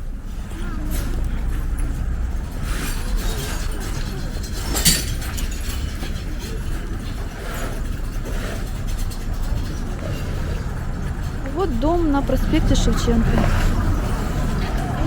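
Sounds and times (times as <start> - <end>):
low rumble of passing traffic: 0.0 - 15.0.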